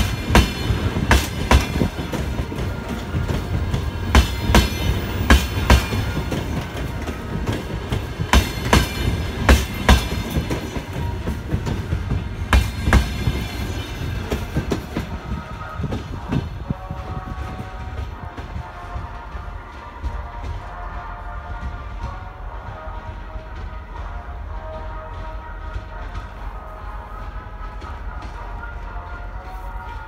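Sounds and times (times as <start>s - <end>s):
train running gear rumble: 0.0s - 30.0s.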